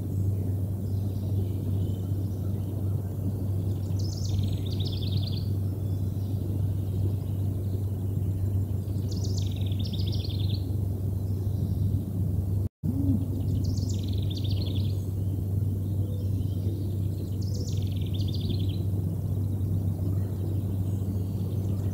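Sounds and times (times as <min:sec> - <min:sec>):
low outdoor rumble: 0:00.0 - 0:21.9
songbird singing: 0:00.0 - 0:21.9.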